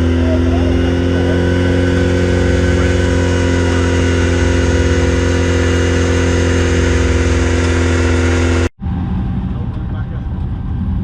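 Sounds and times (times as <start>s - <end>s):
buggy engine running loud: 0.0s - 11.0s.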